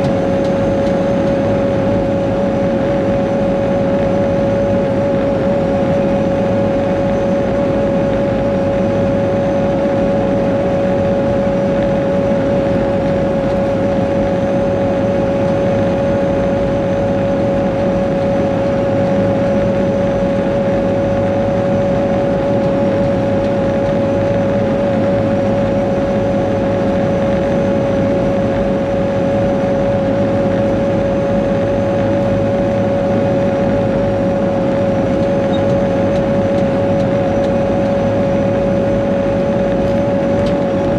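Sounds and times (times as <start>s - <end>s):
diesel engine running with whine: 0.0s - 40.9s.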